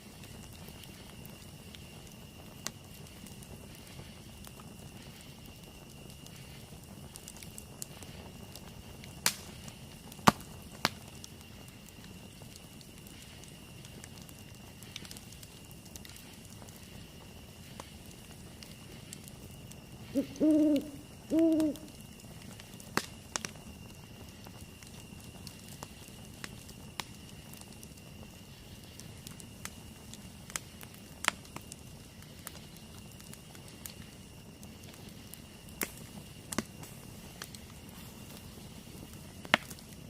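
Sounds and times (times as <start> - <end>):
burning wood popping: 0.0 - 40.0
campfire crackling: 0.0 - 40.0.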